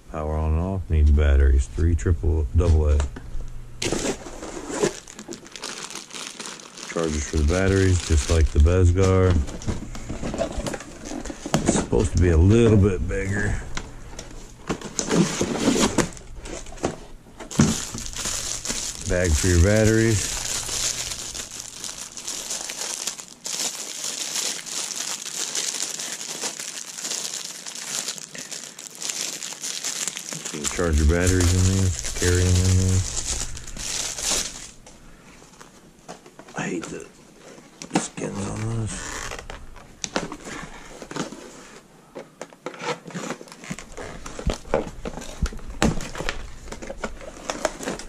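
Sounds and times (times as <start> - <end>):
plastic bags crinkling: 3.8 - 35.8, 38.2 - 41.7, 42.7 - 48.0.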